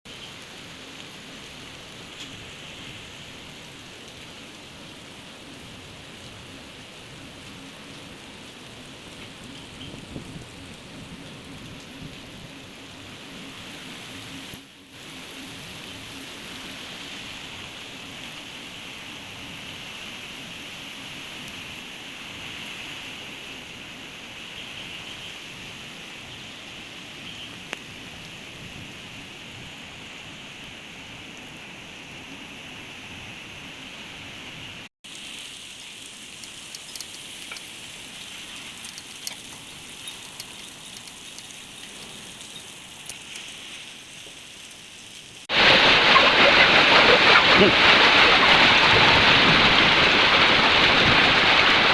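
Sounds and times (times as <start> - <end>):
steady rain hiss: 0.1 - 51.9.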